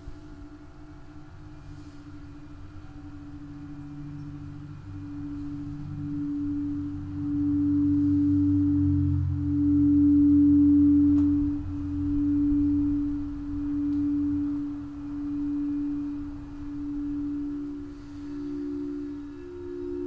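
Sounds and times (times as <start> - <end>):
singing bowl ringing: 2.8 - 20.0.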